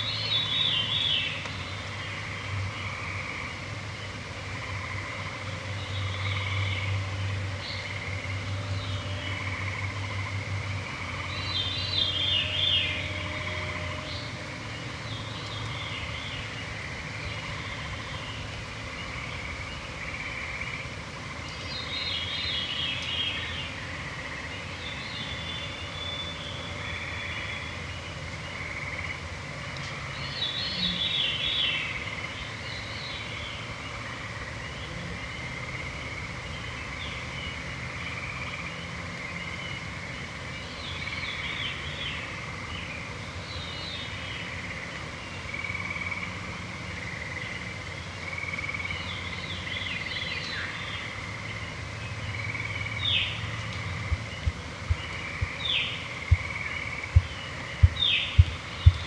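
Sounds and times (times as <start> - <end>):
low ambient hum: 0.0 - 59.0
songbirds singing: 0.0 - 59.0.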